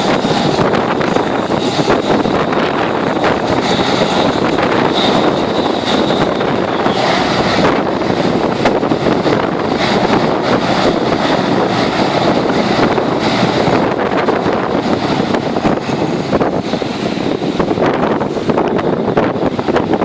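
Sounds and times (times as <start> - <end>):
hovercraft engine and propeller: 0.0 - 20.0
wind buffeting microphone: 0.0 - 20.0.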